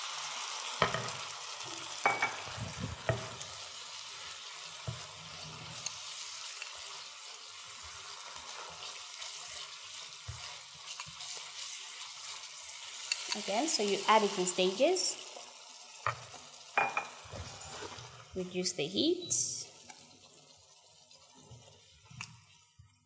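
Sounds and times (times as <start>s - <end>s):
sauce sizzling in frying pan: 0.0s - 23.0s.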